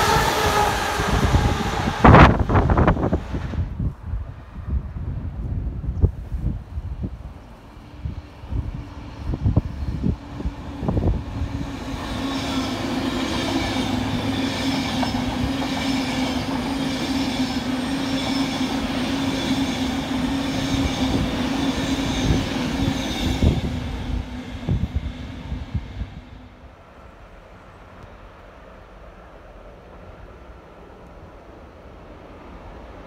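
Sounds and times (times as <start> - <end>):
train hum: 0.0 - 33.0
train wheels rushing on rail: 0.0 - 33.0.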